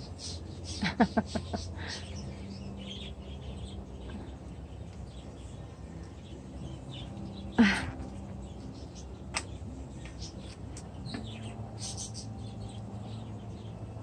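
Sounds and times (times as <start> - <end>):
birds chirping: 0.0 - 14.0
low steady hum: 0.0 - 14.0.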